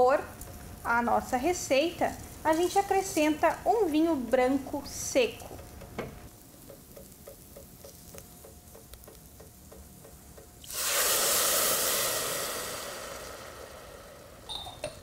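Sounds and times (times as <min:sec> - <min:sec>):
wine sizzling in hot pot: 0:00.0 - 0:15.0.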